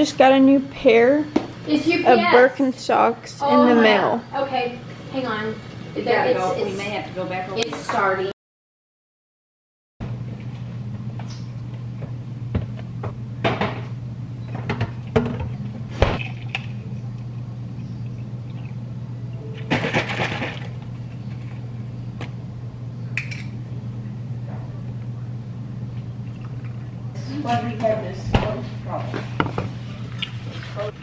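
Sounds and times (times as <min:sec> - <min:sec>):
steady low hum: 0:00.0 - 0:08.3, 0:10.0 - 0:31.0.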